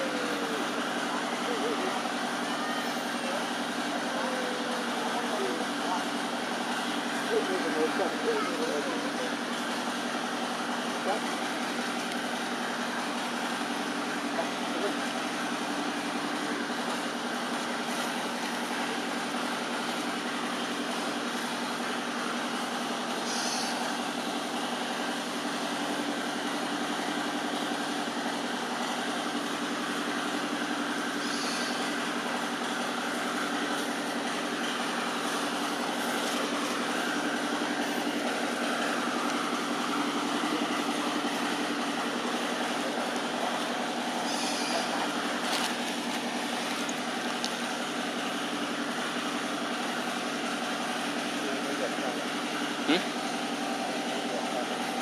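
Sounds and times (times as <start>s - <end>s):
mechanical hum: 0.0s - 55.0s.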